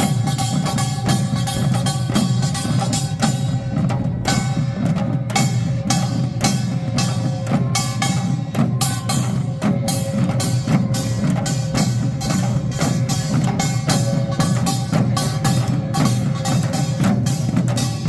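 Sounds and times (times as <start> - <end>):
drums: 0.0 - 18.0.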